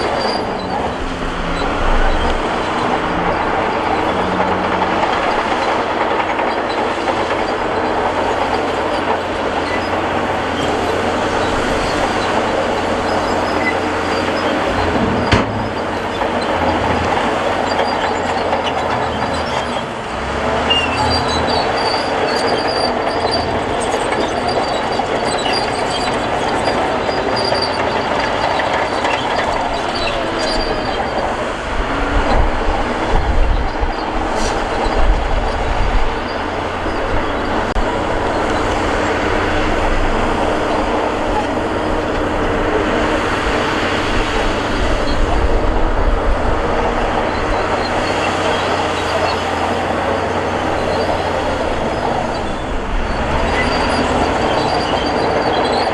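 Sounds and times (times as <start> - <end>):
diesel engine under load: 0.0 - 55.9
steel tracks clanking and squealing: 0.0 - 55.9.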